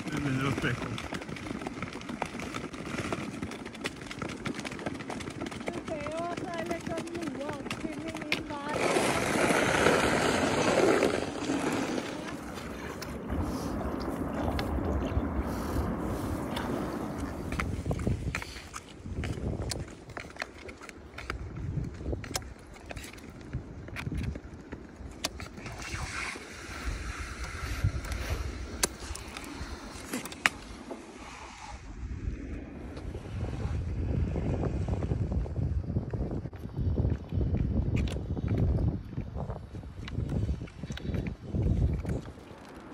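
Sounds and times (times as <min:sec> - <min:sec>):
skates scraping over ice: 0:00.0 - 0:37.3, 0:38.0 - 0:42.9
wind buffeting microphone: 0:00.0 - 0:42.9.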